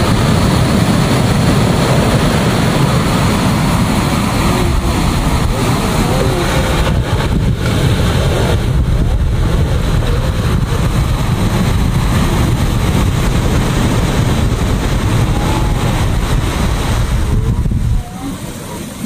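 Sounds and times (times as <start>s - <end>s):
sea waves breaking on a beach: 0.0s - 19.0s
wind buffeting the microphone: 0.0s - 19.0s.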